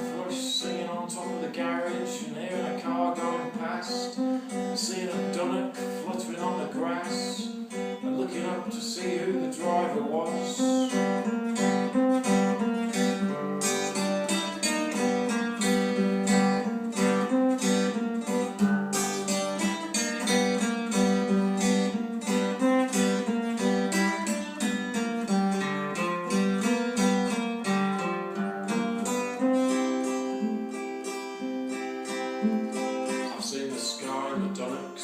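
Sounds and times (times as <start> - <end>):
guitar quickly picked notes: 0.0 - 35.0.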